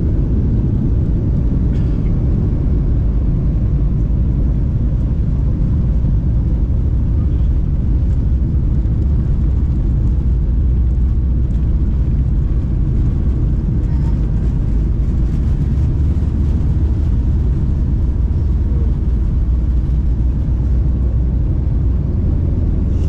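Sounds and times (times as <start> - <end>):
jet engines and airflow rumbling: 0.0 - 23.0.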